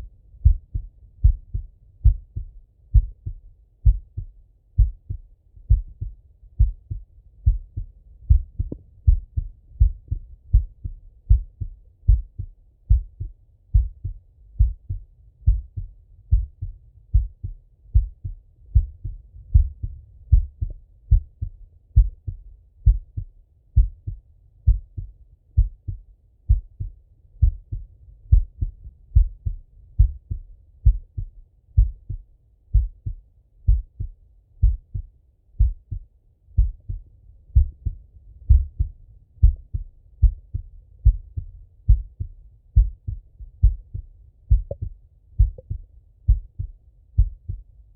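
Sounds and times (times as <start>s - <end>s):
heartbeat through stethoscope: 0.0s - 47.7s.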